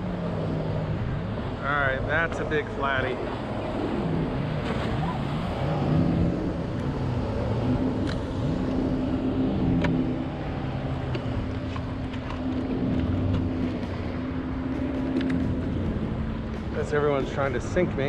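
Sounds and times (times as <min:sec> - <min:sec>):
powerboat engine droning: 0:00.0 - 0:18.0
water wash: 0:00.0 - 0:18.0
wind: 0:00.0 - 0:18.0.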